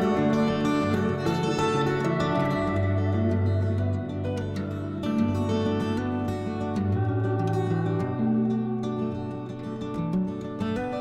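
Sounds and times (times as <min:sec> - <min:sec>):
plucked guitar-like notes: 0:00.0 - 0:11.0.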